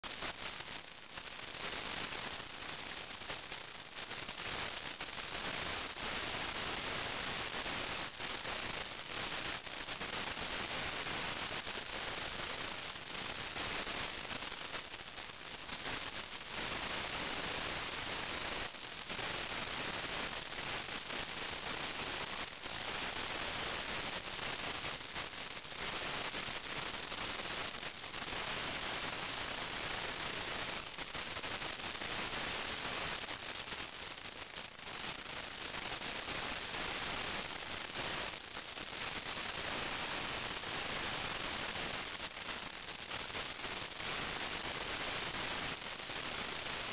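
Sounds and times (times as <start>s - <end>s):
static-like hiss: 0.0s - 46.9s.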